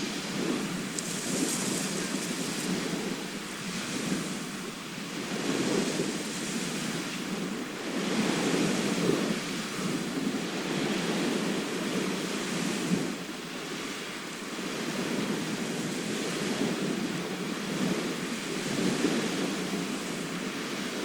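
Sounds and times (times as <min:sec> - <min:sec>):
sea waves washing onto shore: 0:00.0 - 0:21.0
wind on microphone: 0:00.0 - 0:21.0.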